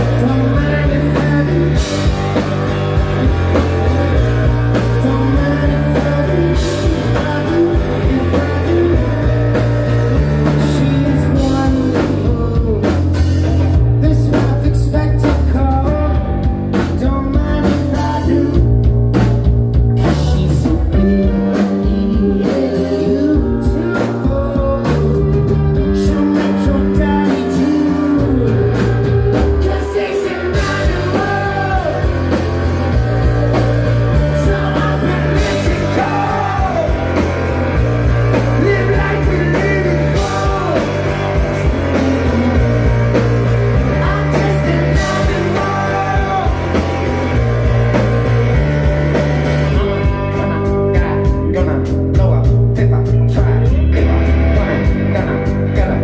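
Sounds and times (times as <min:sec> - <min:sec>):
lead singer: 0:00.0 - 0:56.0
live rock band playing: 0:00.0 - 0:56.0.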